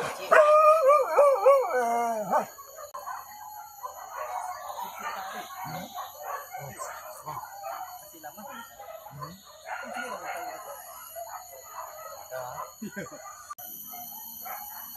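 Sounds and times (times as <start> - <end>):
dog howling: 0.0 - 12.7.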